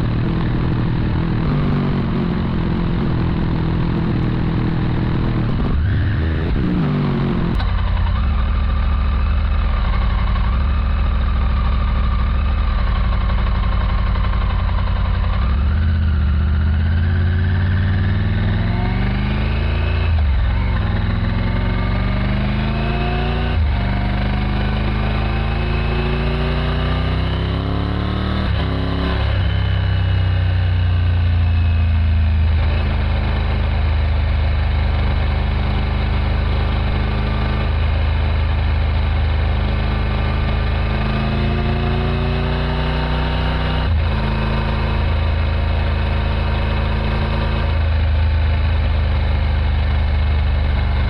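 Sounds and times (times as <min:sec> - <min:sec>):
motorcycle engine revving through gears: 0:00.0 - 0:51.0.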